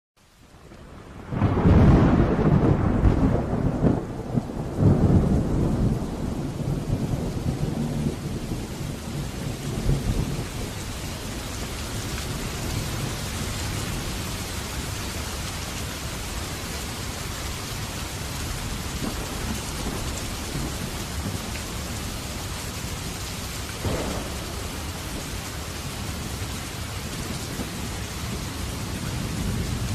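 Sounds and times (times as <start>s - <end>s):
steady rain: 0.2s - 29.9s
low rumble of thunder: 0.8s - 29.9s.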